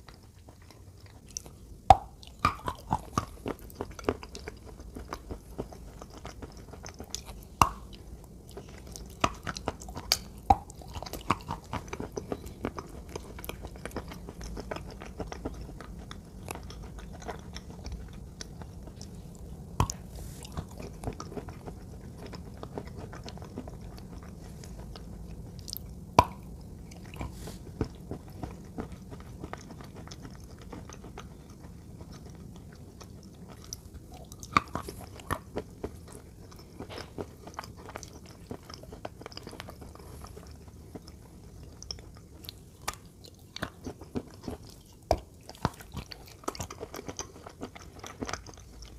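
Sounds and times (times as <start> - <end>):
chewing and crunching: 0.0 - 48.9.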